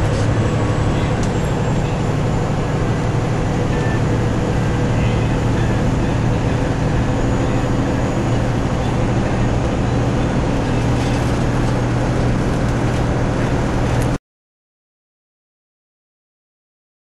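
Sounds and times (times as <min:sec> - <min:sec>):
road noise: 0:00.0 - 0:14.2
truck diesel engine drone: 0:00.0 - 0:14.2.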